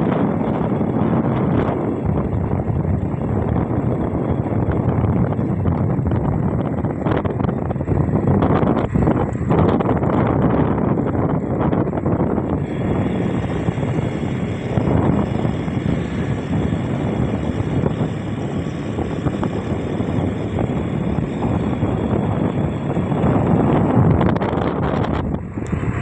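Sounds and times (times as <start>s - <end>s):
strong wind roaring: 0.0s - 26.0s
wind buffeting microphone: 0.0s - 26.0s.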